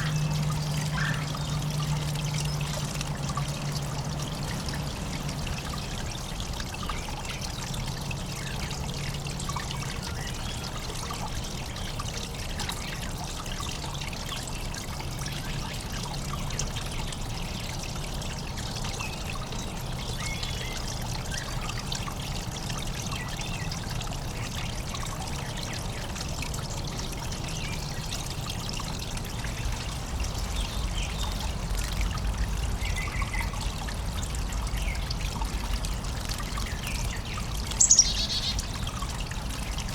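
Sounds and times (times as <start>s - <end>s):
water trickling into birdbath: 0.0s - 39.9s.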